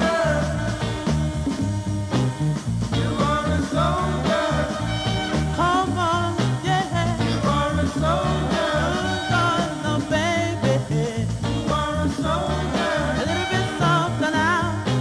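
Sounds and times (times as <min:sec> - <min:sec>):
soul music with bass line: 0:00.0 - 0:15.0.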